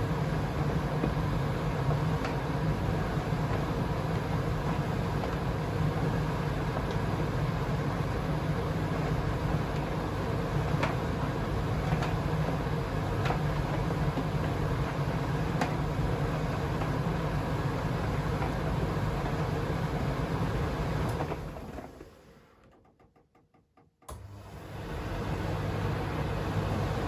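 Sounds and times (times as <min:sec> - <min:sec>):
washing machine humming: 0:00.0 - 0:22.6, 0:24.1 - 0:27.0.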